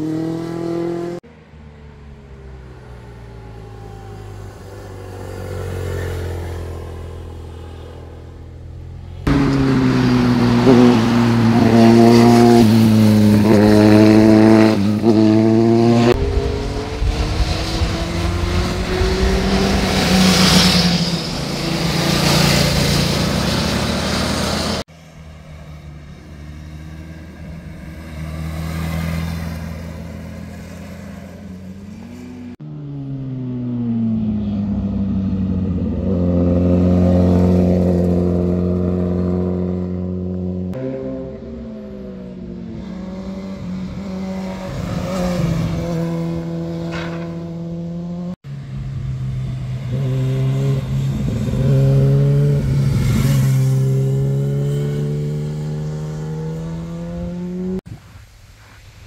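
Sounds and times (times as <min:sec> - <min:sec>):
motorcycle engines accelerating: 0:00.0 - 0:01.2, 0:03.3 - 0:57.9.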